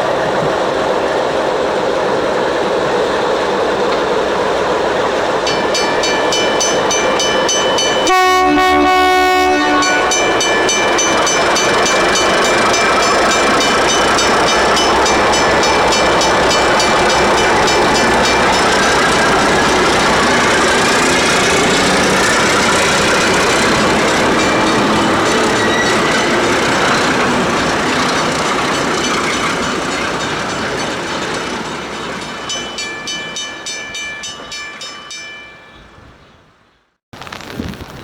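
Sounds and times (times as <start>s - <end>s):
diesel locomotive engine: 0.0s - 35.5s
wheels clacking over rail joints: 2.8s - 35.4s.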